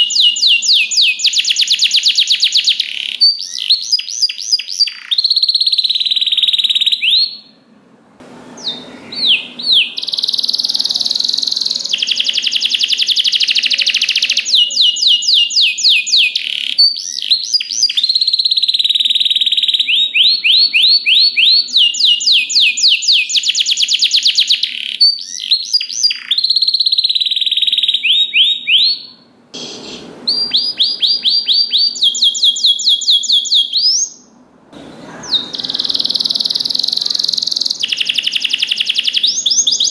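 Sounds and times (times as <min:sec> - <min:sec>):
canary singing trills: 0:00.0 - 0:07.6, 0:08.5 - 0:39.9.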